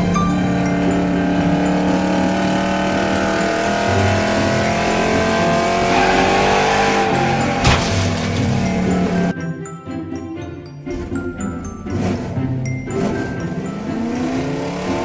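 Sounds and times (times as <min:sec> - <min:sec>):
car engine accelerating: 0:00.0 - 0:09.3, 0:11.8 - 0:15.0
music: 0:00.0 - 0:15.0.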